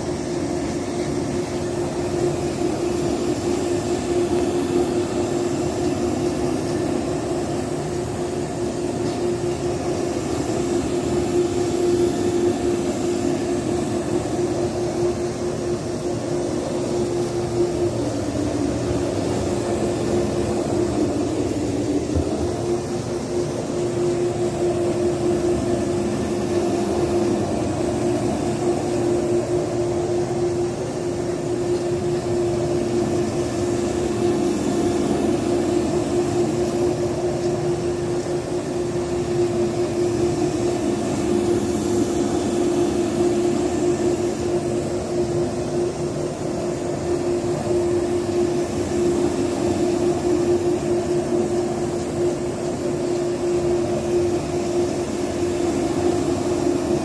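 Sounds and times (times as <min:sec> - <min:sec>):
carpet cleaner droning: 0:00.0 - 0:57.0.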